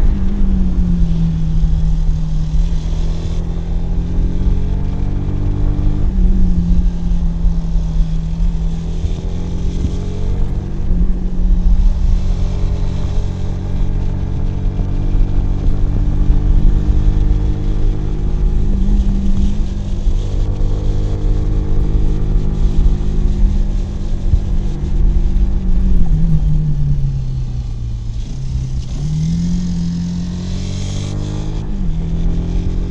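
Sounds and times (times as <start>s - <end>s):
motorcycle engine and exhaust: 0.0s - 32.9s
wind and road rumble: 0.0s - 32.9s.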